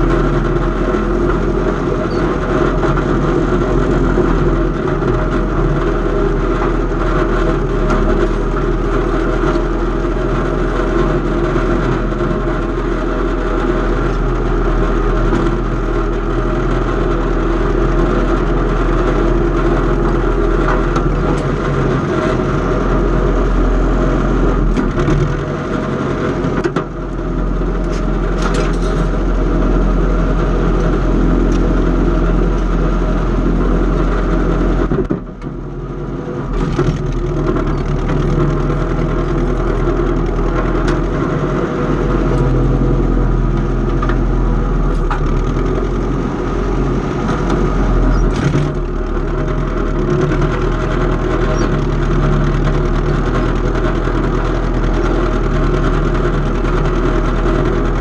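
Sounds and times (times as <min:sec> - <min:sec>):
farm machine engine running: 0:00.0 - 0:58.0.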